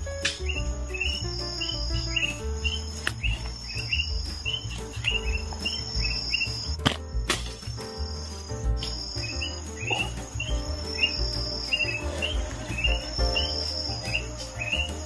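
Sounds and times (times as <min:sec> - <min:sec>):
insects shrilling: 0:00.0 - 0:15.0.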